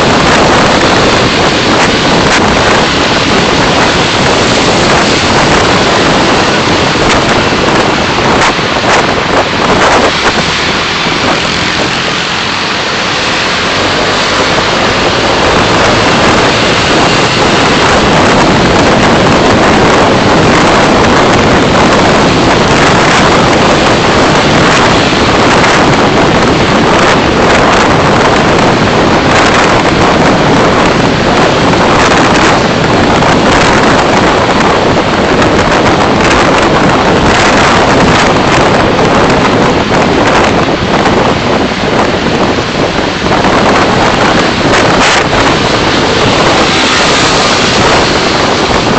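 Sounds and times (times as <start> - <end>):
car road and wind noise: 0.0 - 48.9.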